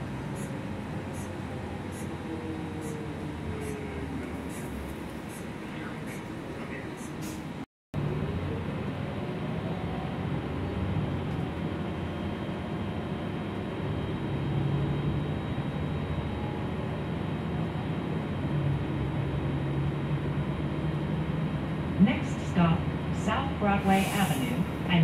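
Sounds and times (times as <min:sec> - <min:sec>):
bus engine: 0:00.0 - 0:25.0
road noise: 0:00.0 - 0:25.0.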